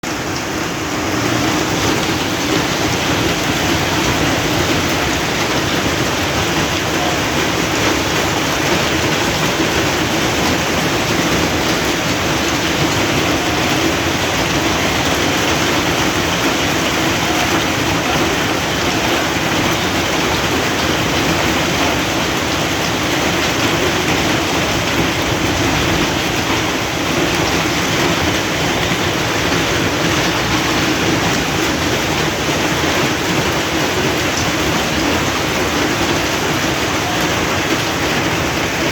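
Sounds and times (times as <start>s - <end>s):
hail and rain falling: 0.0s - 38.9s.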